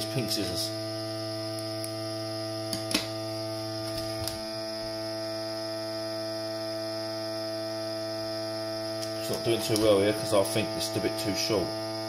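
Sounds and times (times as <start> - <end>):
vacuum sealer pump humming: 0.0 - 12.0.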